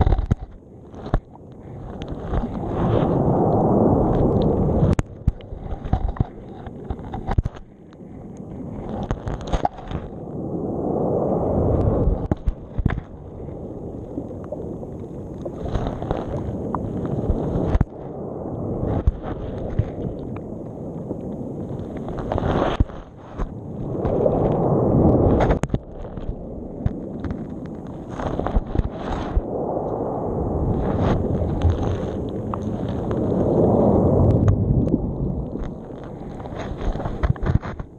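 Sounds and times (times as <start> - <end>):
muffled underwater surf: 0.0 - 37.9.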